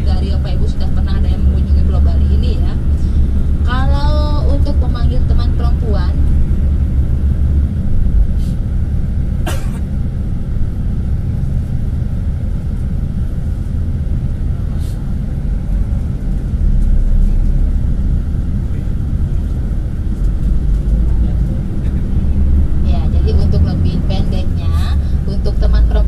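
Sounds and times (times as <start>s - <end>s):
bus driving rumble: 0.0s - 26.0s.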